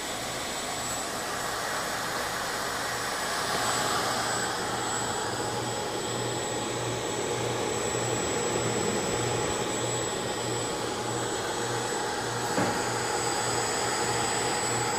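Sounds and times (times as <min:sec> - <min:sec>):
cooling fans whining: 0:00.0 - 0:14.9.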